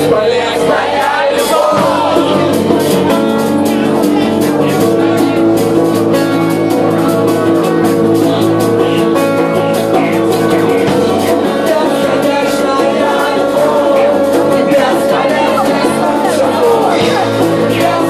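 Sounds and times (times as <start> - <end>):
driving drum beat: 0.0 - 18.0
guitars: 0.0 - 18.0.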